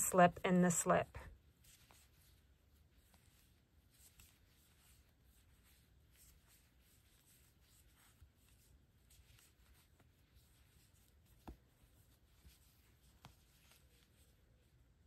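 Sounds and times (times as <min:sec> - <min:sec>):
faint yarn rustling: 0:00.0 - 0:15.0.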